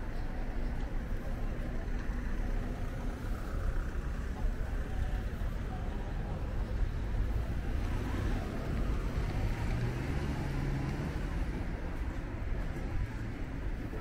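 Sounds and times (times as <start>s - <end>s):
street traffic rumble: 0.0s - 14.0s
vehicle engine humming: 0.0s - 14.0s.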